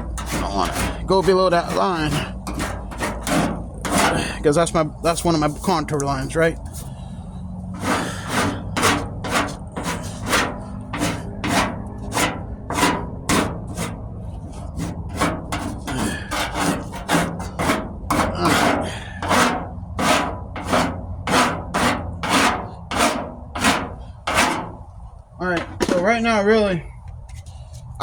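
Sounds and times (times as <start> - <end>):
rasp scraping body filler: 0.0 - 24.9.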